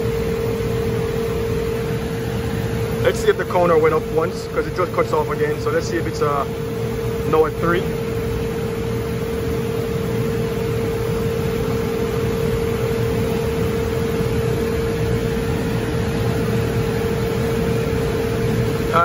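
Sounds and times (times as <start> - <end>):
air conditioning fan rushing: 0.0 - 19.0
mid-pitched hum: 0.0 - 19.0.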